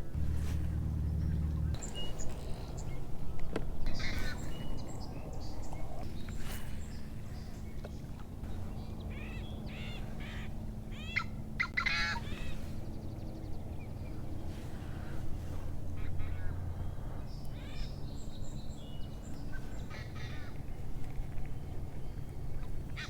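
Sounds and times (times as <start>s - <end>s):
low steady hum: 0.0s - 23.0s
wild birds calling: 0.0s - 23.0s.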